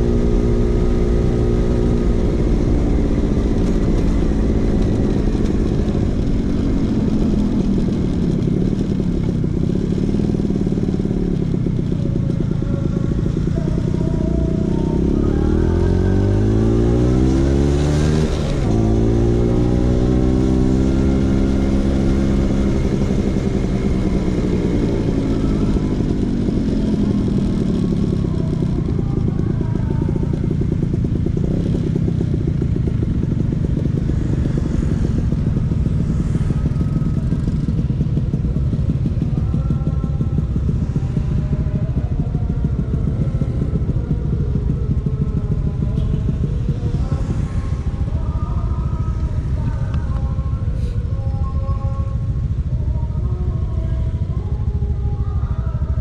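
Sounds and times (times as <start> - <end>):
scooter engine revving: 0.0 - 51.3.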